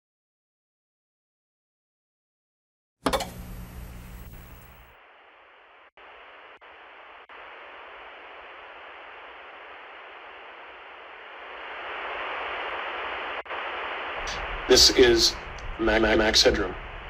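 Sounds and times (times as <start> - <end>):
low hum: 3.1 - 17.0
television static hiss: 3.2 - 17.0.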